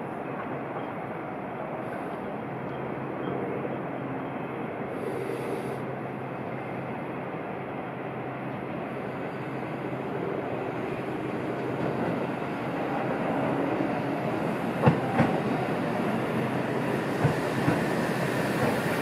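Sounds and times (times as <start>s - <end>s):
city background noise: 0.0s - 19.0s
low rumble of freight train: 0.0s - 19.0s.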